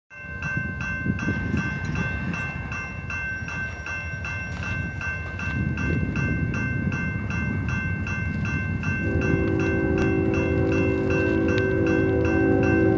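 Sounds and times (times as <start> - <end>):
crossing warning bell ringing: 0.1 - 12.9.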